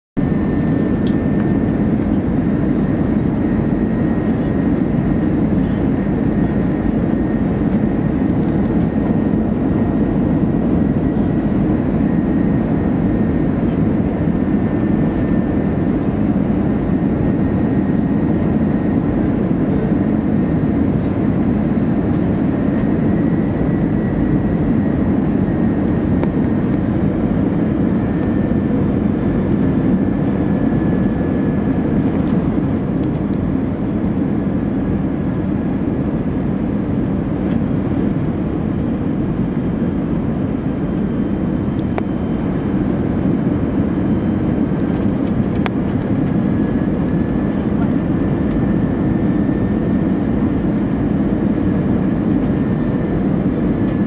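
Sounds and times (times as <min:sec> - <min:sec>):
airliner cabin engine and airflow noise: 0:00.2 - 0:54.0.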